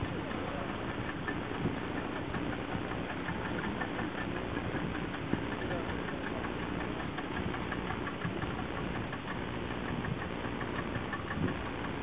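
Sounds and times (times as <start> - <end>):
boat engine knocking: 0.0 - 12.0.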